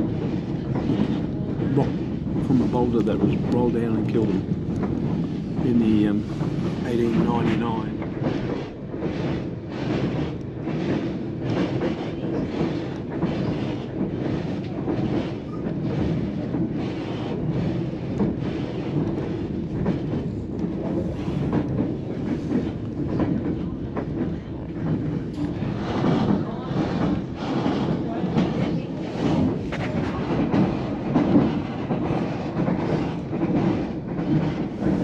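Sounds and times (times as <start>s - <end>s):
train coach rumbling on rails: 0.0s - 35.0s.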